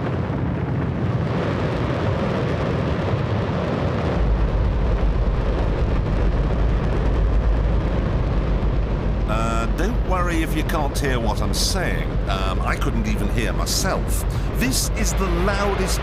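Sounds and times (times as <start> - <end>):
rocket engine roaring: 0.0 - 16.0.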